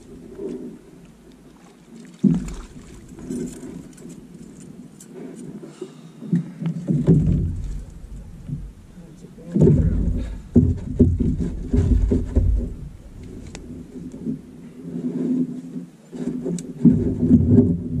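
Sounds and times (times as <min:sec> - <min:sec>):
boat hull rumbling on water: 0:00.0 - 0:04.6, 0:05.6 - 0:18.0.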